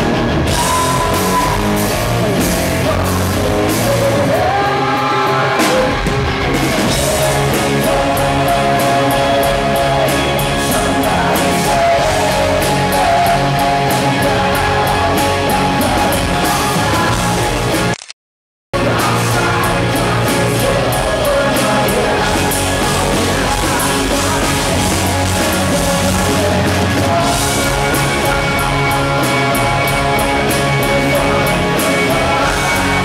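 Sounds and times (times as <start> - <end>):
drum kit: 0.0 - 18.0, 18.8 - 33.0
electric guitars: 0.0 - 18.0, 18.8 - 33.0
bass guitar: 0.0 - 18.1, 18.8 - 33.0
man singing: 0.5 - 6.1, 6.9 - 17.8, 18.8 - 33.0.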